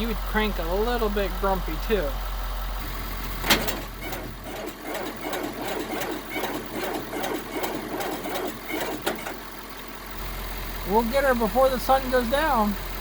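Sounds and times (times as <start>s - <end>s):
diesel engine cranking slowly: 0.0s - 13.0s.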